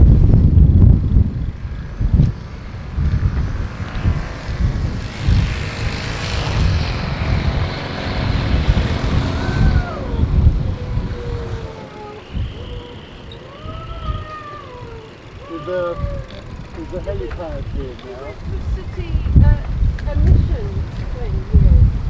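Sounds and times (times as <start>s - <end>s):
vehicle engine passing: 0.0s - 22.0s
wind buffeting microphone: 0.0s - 22.0s.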